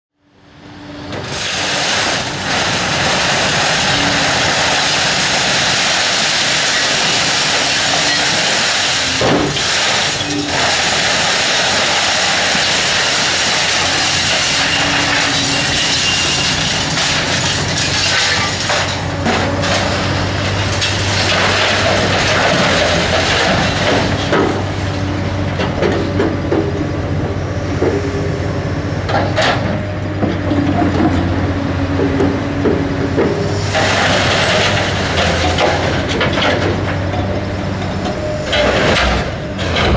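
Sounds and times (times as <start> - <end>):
excavator diesel engine: 0.2 - 39.9
scrap metal scraping and clattering: 1.2 - 26.7, 32.0 - 39.9.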